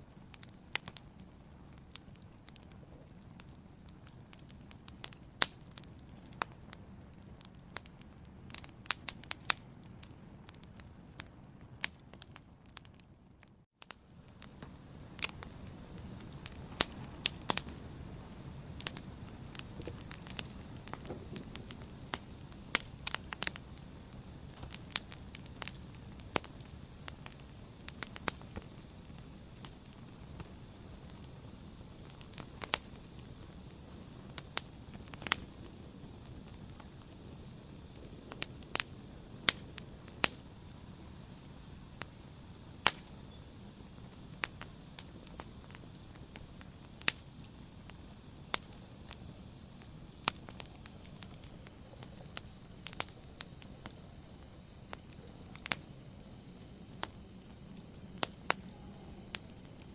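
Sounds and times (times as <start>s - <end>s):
fire crackling and popping: 0.0s - 59.9s
low hiss of flames: 0.0s - 59.9s.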